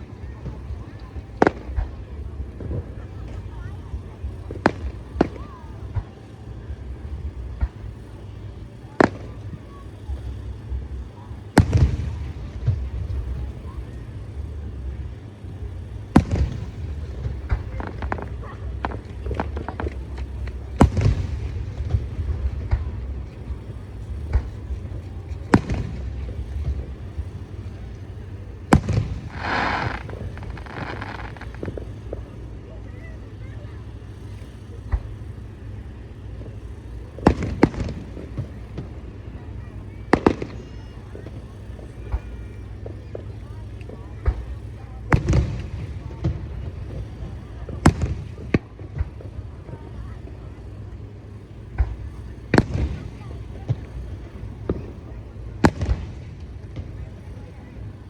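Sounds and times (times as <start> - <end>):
crackling firework pops: 0.0 - 58.0
firework shells bursting: 0.0 - 58.0.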